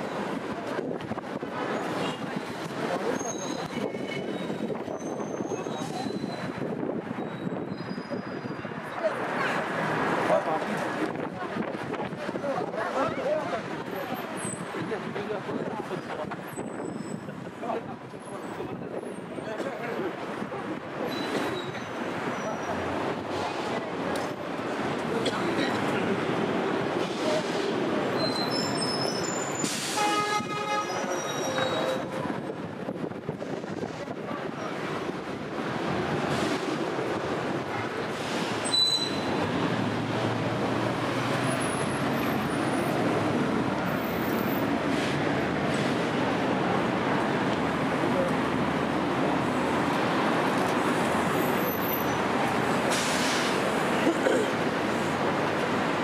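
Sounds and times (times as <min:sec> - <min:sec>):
downtown street noise: 0:00.0 - 0:56.0.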